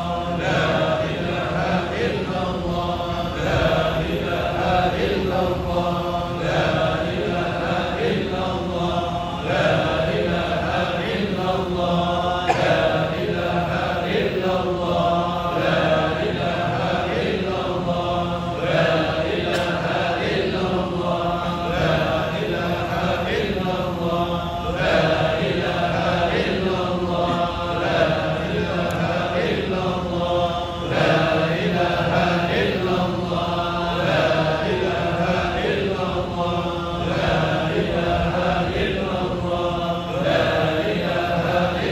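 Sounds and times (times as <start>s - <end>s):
congregation chanting in unison: 0.0s - 41.9s.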